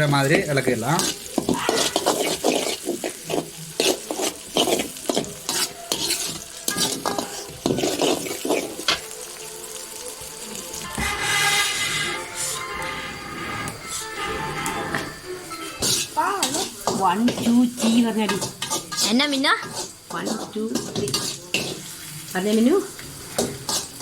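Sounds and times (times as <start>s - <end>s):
spoon stirring and scraping pan: 0.0s - 9.4s, 10.8s - 24.0s
food sizzling in oil: 0.0s - 24.0s.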